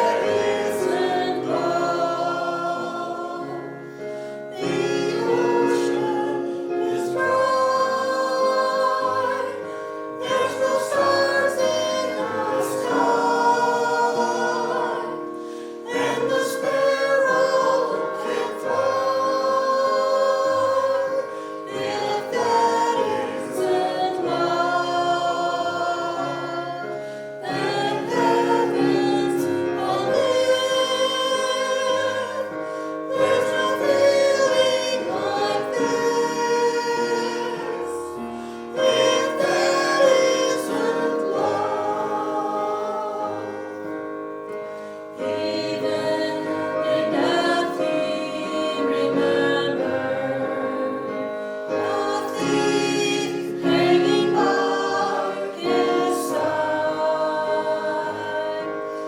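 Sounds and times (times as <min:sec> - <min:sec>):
gospel choir singing: 0:00.0 - 0:59.0
instrumental accompaniment: 0:00.0 - 0:59.0.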